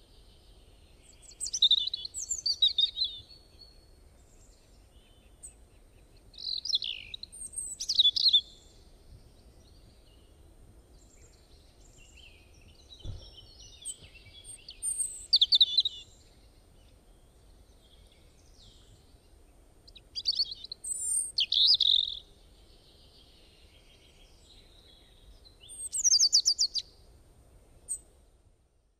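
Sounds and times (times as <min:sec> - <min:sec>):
songbird chirping: 0:00.0 - 0:28.3
faint background noise: 0:00.0 - 0:28.9.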